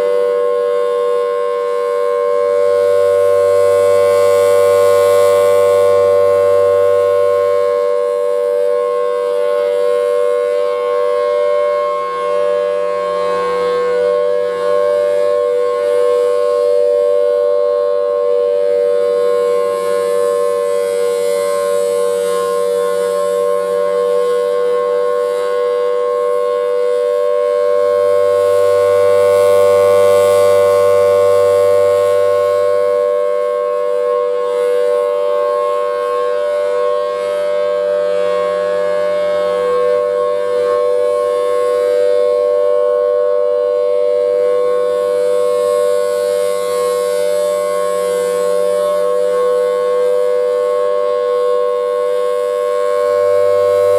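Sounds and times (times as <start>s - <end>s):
tornado siren two-note alert: 0.0s - 53.9s.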